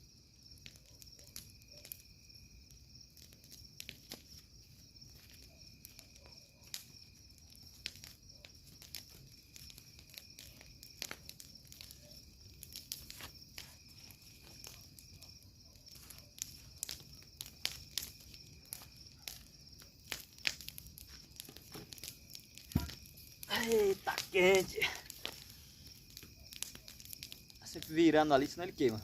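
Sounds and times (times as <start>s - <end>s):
bonfire crackling and popping: 0.0s - 29.0s
insects trilling: 0.0s - 29.0s.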